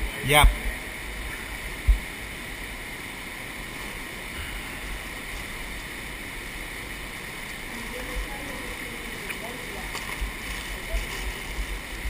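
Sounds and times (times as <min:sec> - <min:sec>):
underground stream rushing: 0:00.0 - 0:12.0.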